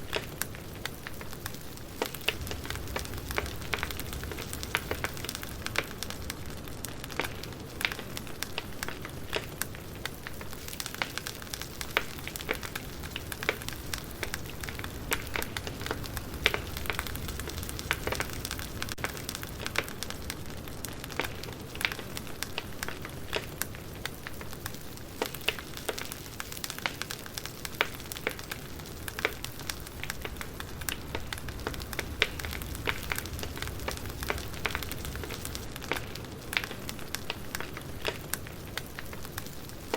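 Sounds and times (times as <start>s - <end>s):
campfire wood crackling: 0.0s - 39.9s
hiss of flames: 0.0s - 39.9s.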